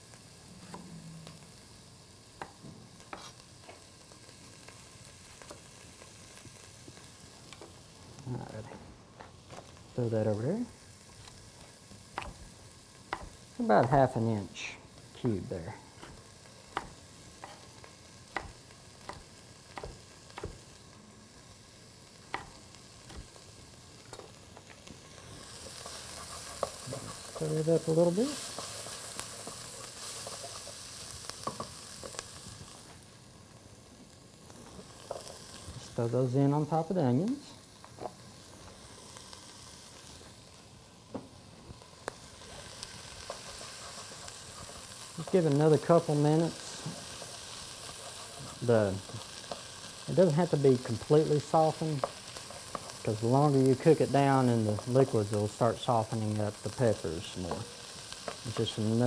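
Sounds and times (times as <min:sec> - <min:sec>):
onions sizzling in a pan: 0:00.0 - 0:59.0.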